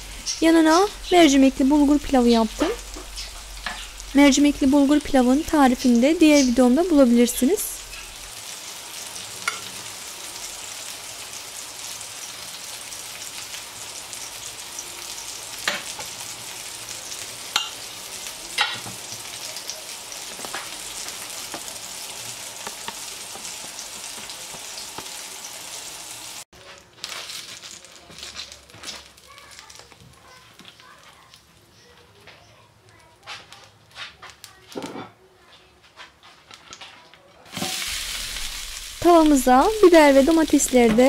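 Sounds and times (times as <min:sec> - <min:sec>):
food sizzling on a grill pan: 0:00.0 - 0:34.6, 0:37.5 - 0:41.0.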